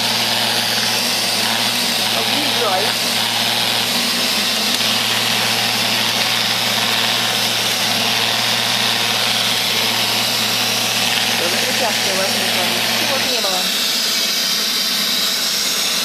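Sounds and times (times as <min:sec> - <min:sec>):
robot vacuum motor humming: 0:00.0 - 0:16.0.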